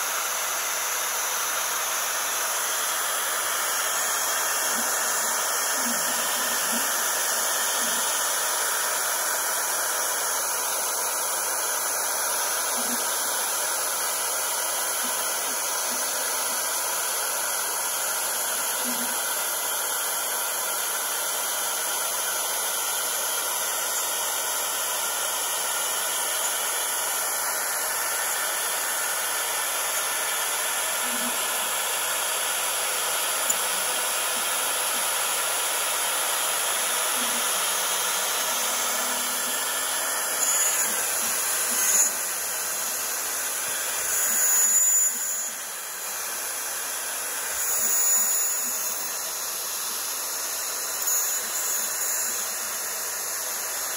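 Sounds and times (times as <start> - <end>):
cnc router milling aluminium: 0.0 - 53.9.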